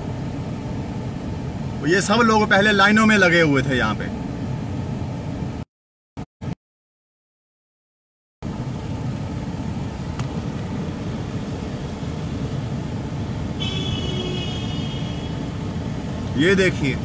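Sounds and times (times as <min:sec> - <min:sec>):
car engine rumble: 0:00.0 - 0:05.6, 0:08.4 - 0:17.0
car road noise: 0:00.0 - 0:05.6, 0:08.4 - 0:17.0.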